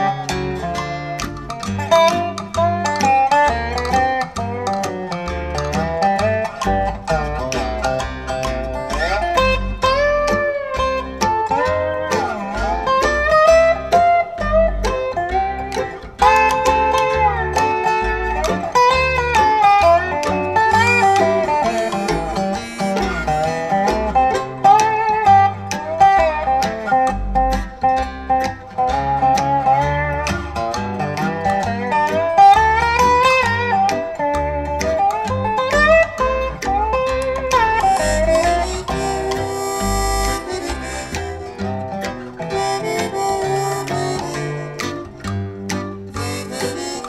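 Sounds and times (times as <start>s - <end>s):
bass line: 0.0s - 47.0s
instrumental music over loudspeakers: 0.0s - 47.0s
picked guitar melody: 0.0s - 47.0s.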